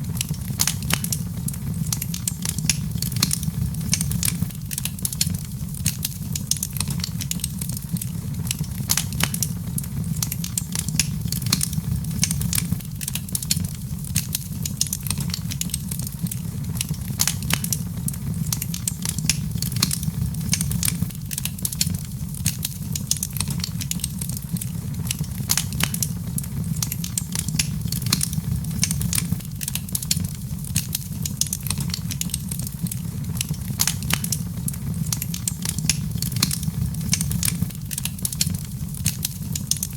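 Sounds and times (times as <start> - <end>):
fire crackling and popping: 0.0 - 39.9
low rumble of flame: 0.0 - 39.9.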